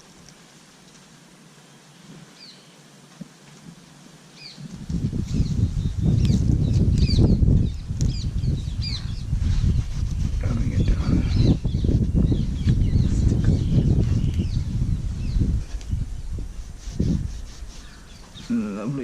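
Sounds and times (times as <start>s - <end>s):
small birds chirping: 1.6s - 2.8s, 4.3s - 19.0s.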